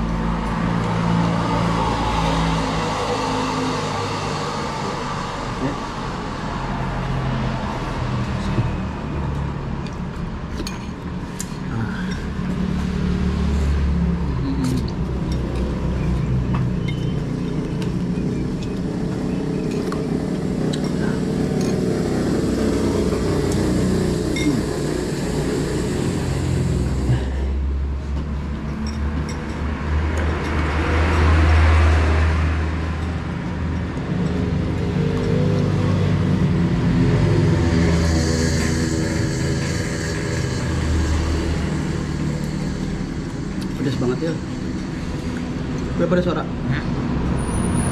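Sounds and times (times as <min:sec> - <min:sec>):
vehicle passing: 0:00.0 - 0:10.5, 0:11.5 - 0:47.9
road traffic rumble: 0:00.0 - 0:47.9.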